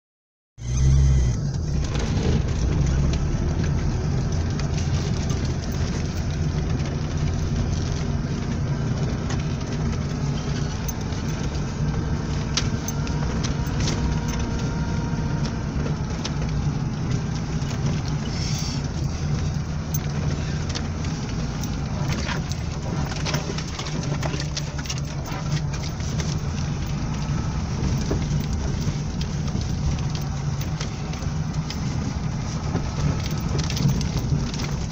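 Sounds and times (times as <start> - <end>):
low engine drone: 0.6 - 34.9
body and suspension rattles: 1.2 - 34.9.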